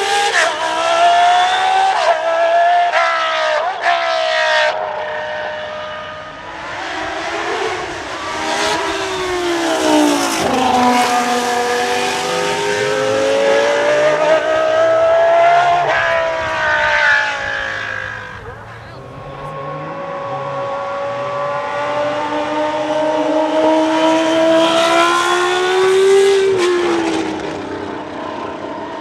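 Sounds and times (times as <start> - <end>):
racing car engine revving: 0.0 - 29.0.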